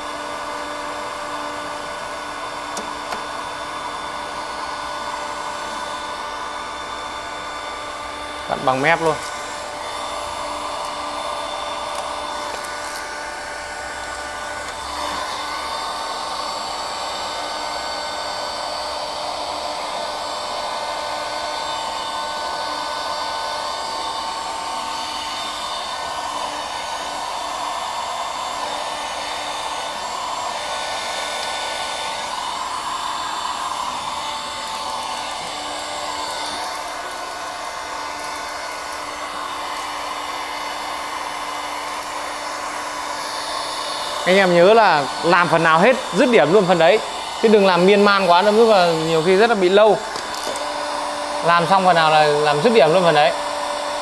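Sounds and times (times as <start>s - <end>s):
heat gun blowing air: 0.0s - 54.0s.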